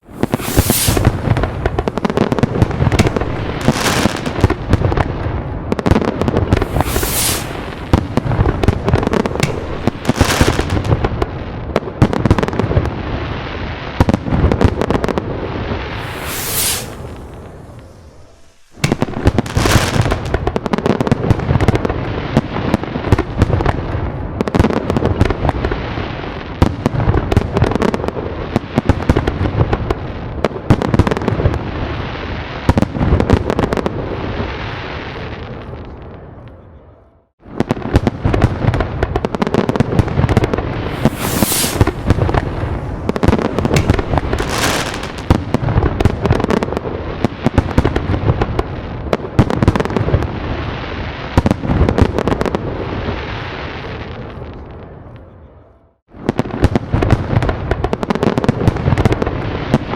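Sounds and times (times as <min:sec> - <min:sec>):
fireworks bangs and crackling: 0:00.0 - 0:36.6, 0:37.4 - 0:55.3, 0:56.1 - 0:59.9.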